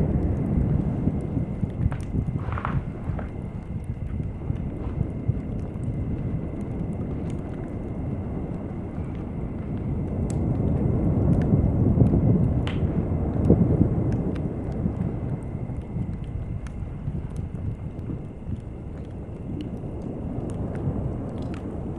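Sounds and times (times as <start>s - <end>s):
faint campfire crackles: 0.0s - 21.9s
rumbling surf: 0.0s - 21.9s.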